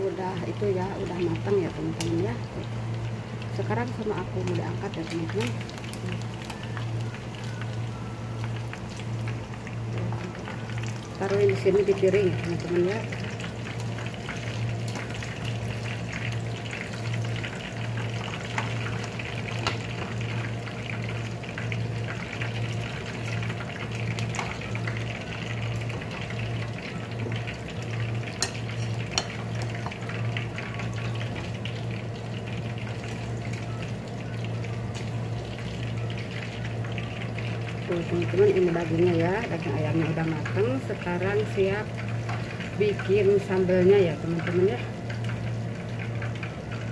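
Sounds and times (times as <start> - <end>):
chicken deep-frying sizzle: 0.0 - 46.9.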